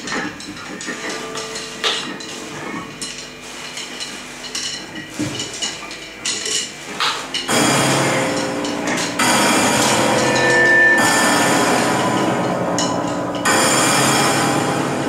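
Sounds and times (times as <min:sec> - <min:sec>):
metal percussion clinks and scrapes: 0:00.0 - 0:15.0.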